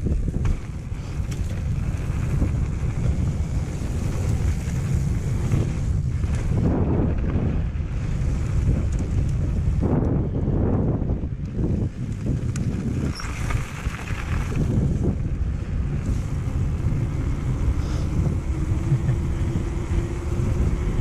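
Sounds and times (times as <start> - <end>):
bike tyres on gravel: 0.0 - 21.0
wind buffeting microphone: 0.0 - 21.0.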